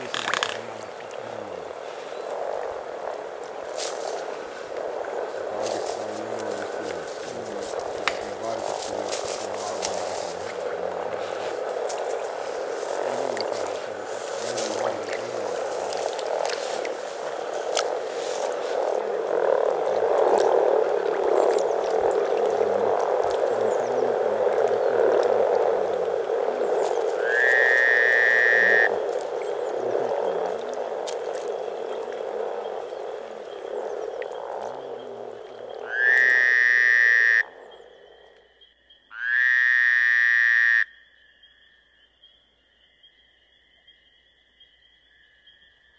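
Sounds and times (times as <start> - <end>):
frogs chorus grunting: 0.0 - 45.9.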